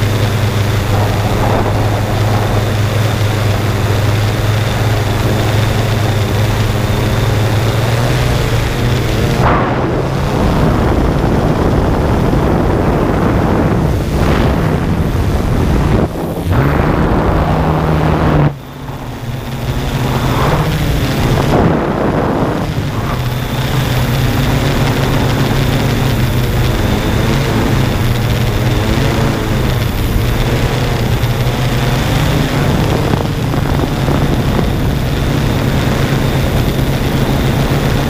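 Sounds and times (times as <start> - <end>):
drone propellers humming: 0.0 - 38.0
wind noise on microphone: 0.0 - 38.0.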